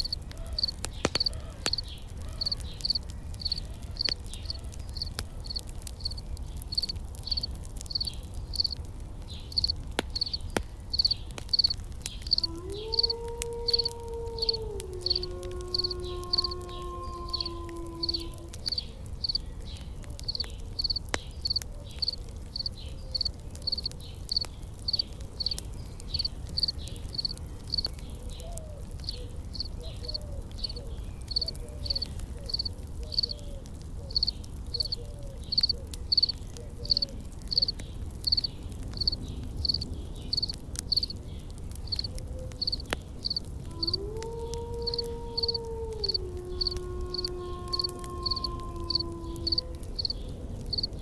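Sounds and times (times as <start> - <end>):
insects chirping: 0.0 - 8.8, 9.4 - 19.4, 20.3 - 28.0, 29.0 - 33.3, 34.1 - 41.2, 41.9 - 50.9
faint crackles: 0.0 - 51.0.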